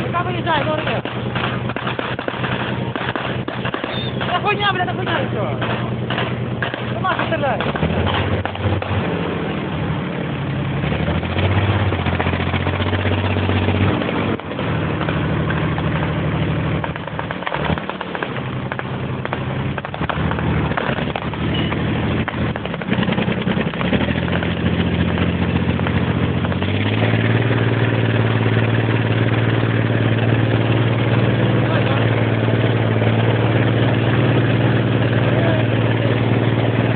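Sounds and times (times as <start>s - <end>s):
moving vehicle noise: 0.0s - 36.9s
vehicle engine revving: 0.0s - 36.9s.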